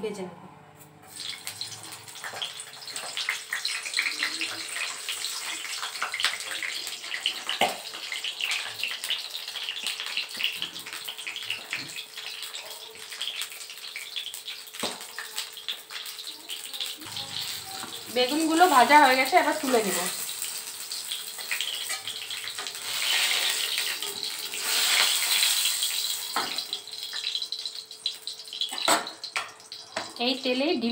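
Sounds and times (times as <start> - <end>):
frying sizzle with crackles: 1.0 - 30.9.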